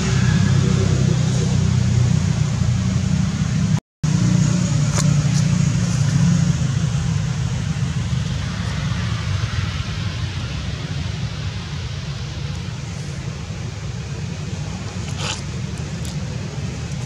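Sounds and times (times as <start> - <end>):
steady low rumbling: 0.0 - 17.0.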